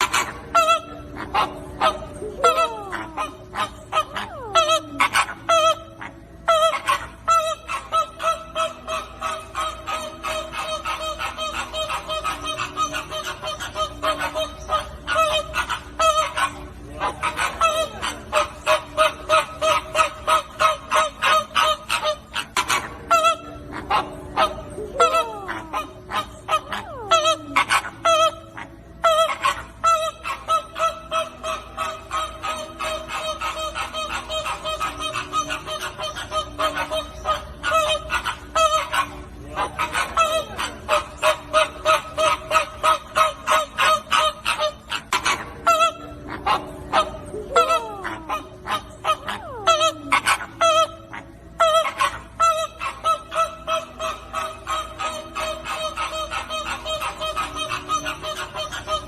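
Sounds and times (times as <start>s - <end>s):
flamingos honking: 0.0s - 59.0s.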